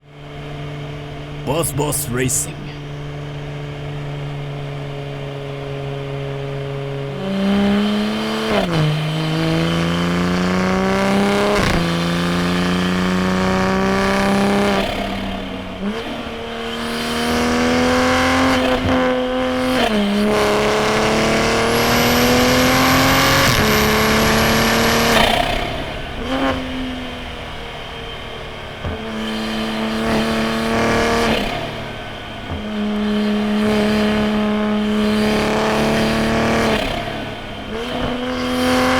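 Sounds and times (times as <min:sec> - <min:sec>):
car engine revving hard: 0:04.8 - 0:26.6, 0:29.0 - 0:38.9.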